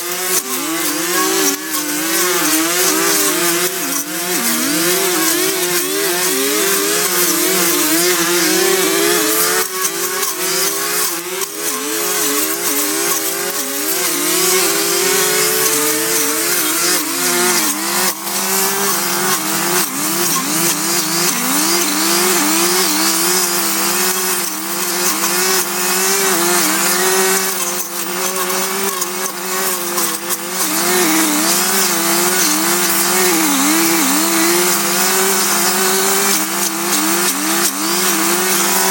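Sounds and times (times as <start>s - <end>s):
two-stroke power tool engine cutting: 0.0s - 38.9s.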